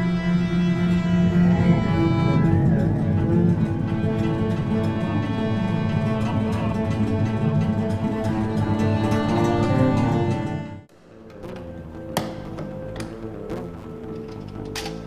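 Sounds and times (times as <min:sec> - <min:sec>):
plucked and bowed strings music: 0:00.0 - 0:15.0.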